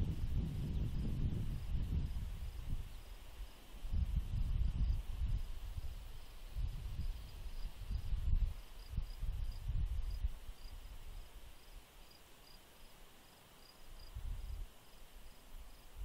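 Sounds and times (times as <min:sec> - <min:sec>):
cricket chirping: 0:00.1 - 0:16.0.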